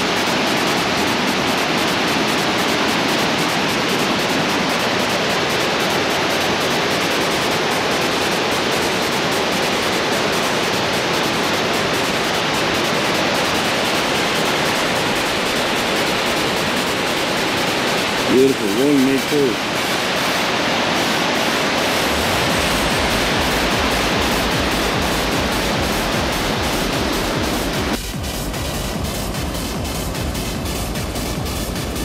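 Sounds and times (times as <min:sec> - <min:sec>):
waterfall rushing over rock: 0:00.0 - 0:32.0.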